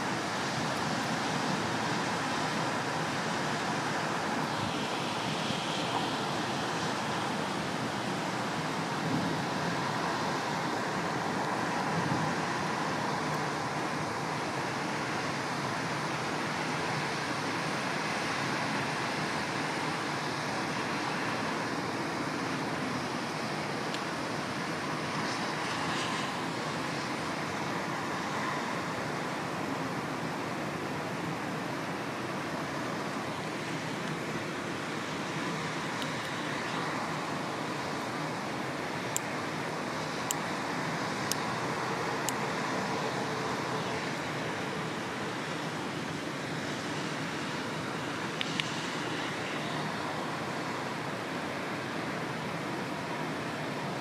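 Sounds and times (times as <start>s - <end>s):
city traffic noise: 0.0s - 54.0s.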